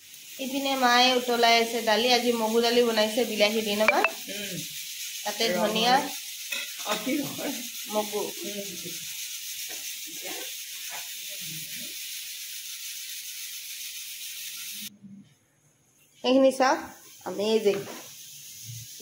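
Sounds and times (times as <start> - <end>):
food sizzling in a pot: 0.0 - 14.9, 16.0 - 19.0.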